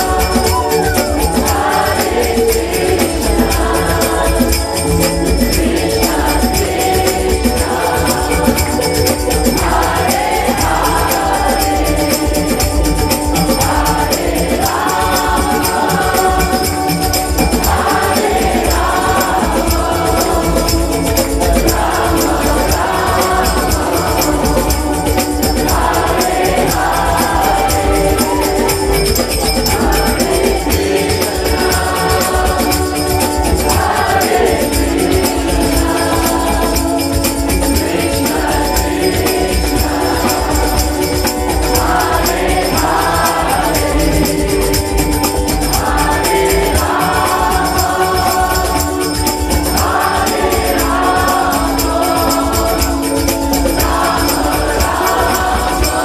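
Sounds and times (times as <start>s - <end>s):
large crowd chanting together: 0.0s - 37.2s, 37.8s - 49.0s, 49.6s - 56.0s
tabla drumming: 0.0s - 56.0s.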